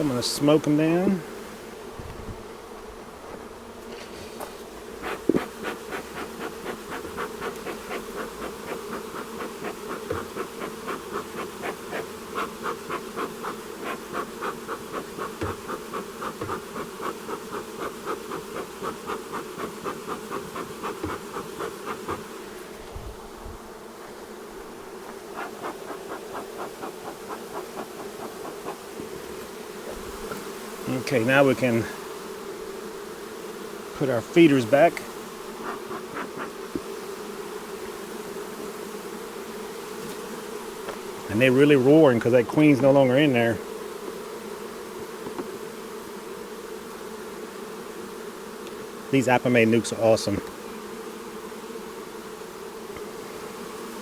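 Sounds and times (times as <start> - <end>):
bee smoker bellows puffing: 0.0 - 54.0
honeybees buzzing: 0.0 - 54.0.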